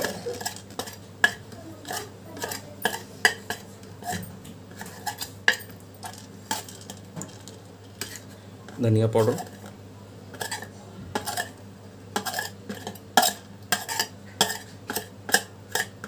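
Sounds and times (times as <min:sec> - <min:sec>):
metal spoon scraping steel plate: 0:00.0 - 0:07.0, 0:07.9 - 0:09.7, 0:10.3 - 0:11.5, 0:12.2 - 0:16.0.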